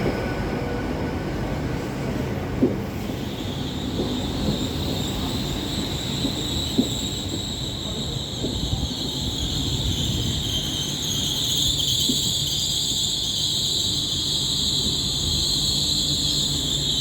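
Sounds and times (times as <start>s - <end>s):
low train rumble: 0.0s - 17.0s
train wheels squealing: 0.0s - 17.0s.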